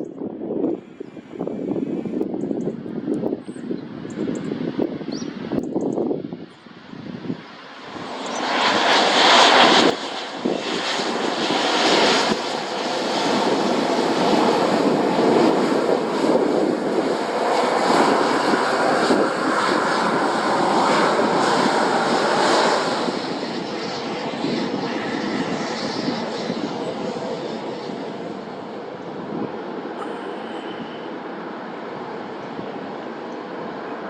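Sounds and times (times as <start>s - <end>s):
jet airliner passing close: 0.1s - 34.0s.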